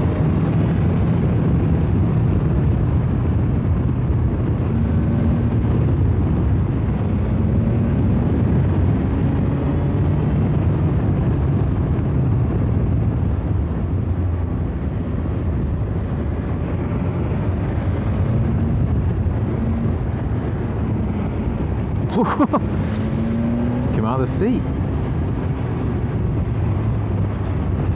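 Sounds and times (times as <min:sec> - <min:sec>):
motorcycle engine cruising: 0:00.0 - 0:27.9
wind and road noise: 0:00.0 - 0:27.9.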